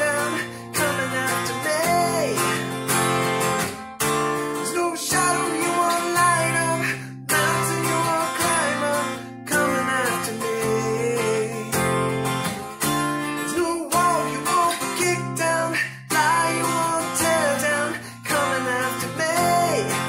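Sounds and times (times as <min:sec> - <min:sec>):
man singing: 0:00.0 - 0:03.0, 0:04.4 - 0:12.3, 0:13.2 - 0:20.0
acoustic guitar strumming: 0:00.0 - 0:20.0.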